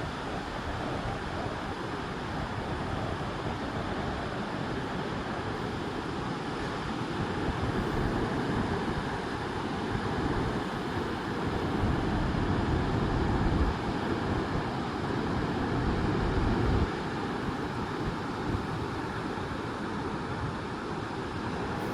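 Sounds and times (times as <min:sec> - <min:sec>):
wind buffeting microphone: 0:00.0 - 0:19.6
waves breaking: 0:00.0 - 0:21.9.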